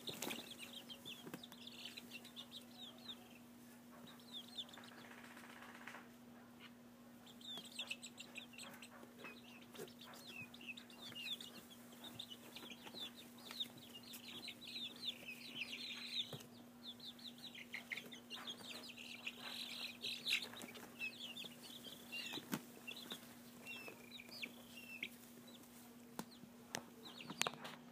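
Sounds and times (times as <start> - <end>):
chicks chirping: 0.0 - 27.9.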